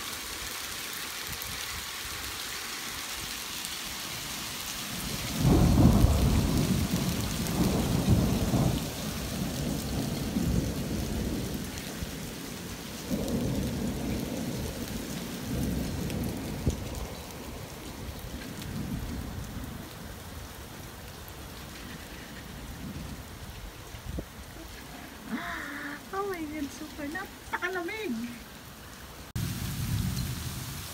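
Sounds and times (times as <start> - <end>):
rain and hail pelting: 0.0 - 30.9.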